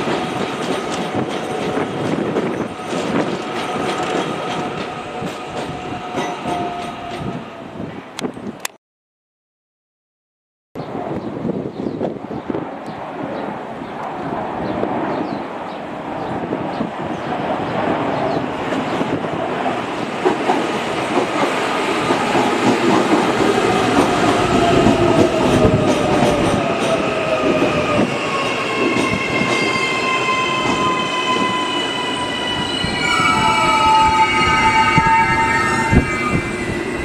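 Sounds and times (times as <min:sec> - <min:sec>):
train wheels rumbling on rails: 0:00.0 - 0:07.7, 0:14.2 - 0:37.0.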